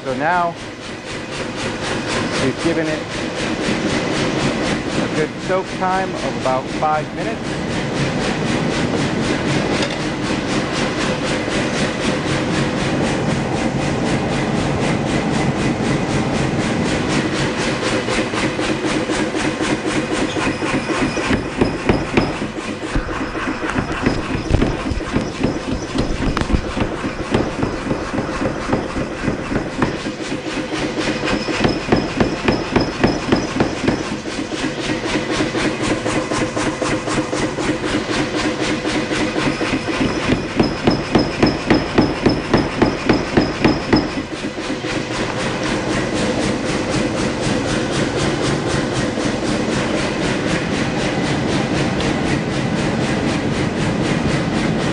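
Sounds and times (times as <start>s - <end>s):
gas forge roaring: 0.0s - 54.9s
rapid hammer blows on hot metal: 0.0s - 54.9s.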